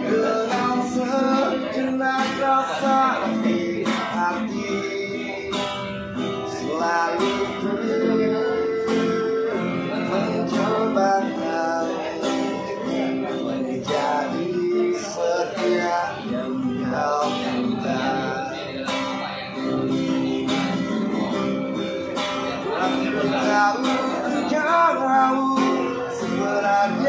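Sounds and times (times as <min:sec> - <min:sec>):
man singing a slow ballad: 0:00.0 - 0:27.0
strummed acoustic guitar: 0:00.0 - 0:27.0.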